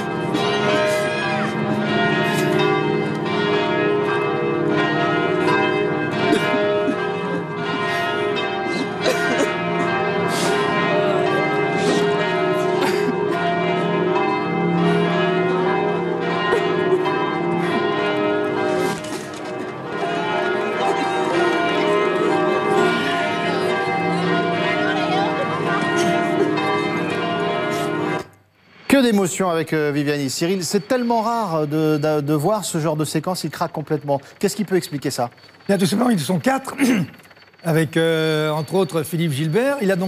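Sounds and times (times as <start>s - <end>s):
church bells ringing: 0.0s - 40.0s.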